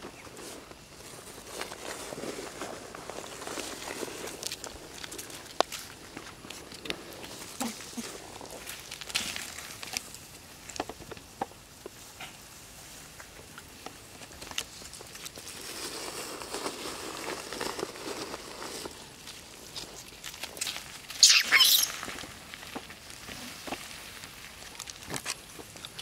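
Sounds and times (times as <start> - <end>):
footsteps on dry leaves and gravel: 0.0 - 10.8, 11.8 - 26.0.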